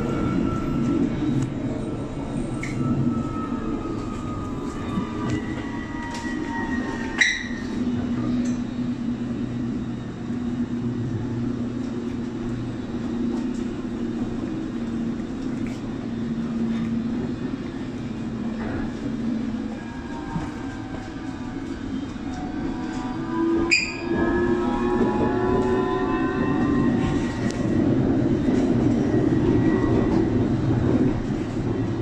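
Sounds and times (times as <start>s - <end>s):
wheels rumbling on track: 0.0s - 32.0s.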